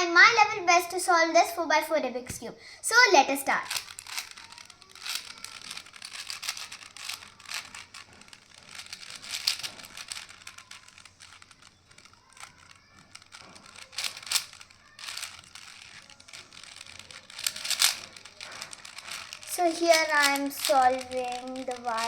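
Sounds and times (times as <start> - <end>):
plastic puzzle cube clicking: 3.7 - 22.0.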